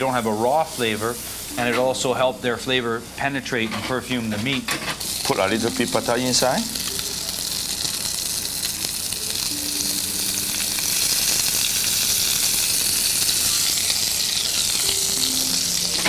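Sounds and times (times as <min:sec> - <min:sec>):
butter sizzling in saucepan: 0:00.0 - 0:16.0.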